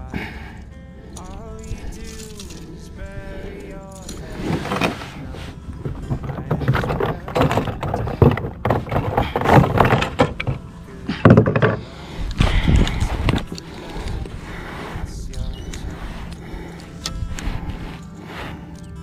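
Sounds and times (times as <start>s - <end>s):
handling knocks and clicks: 1.1s - 19.0s.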